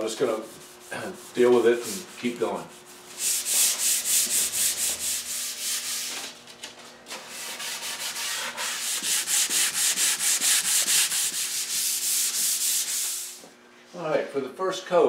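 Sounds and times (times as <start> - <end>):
sandpaper rubbing on wood: 0.2 - 6.2, 7.2 - 13.4.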